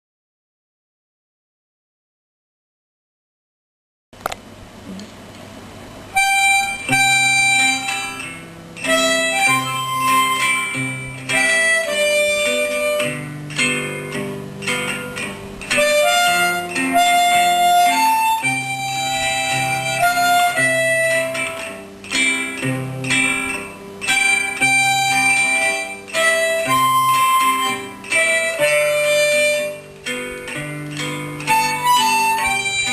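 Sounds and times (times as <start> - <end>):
held melody notes: 6.1 - 32.9
plucked guitar: 6.1 - 32.9.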